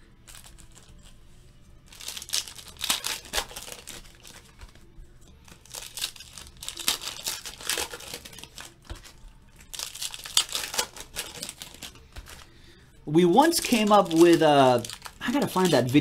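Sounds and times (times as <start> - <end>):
foil packs crinkling and tearing: 1.9 - 4.8, 5.4 - 12.5, 13.1 - 16.0.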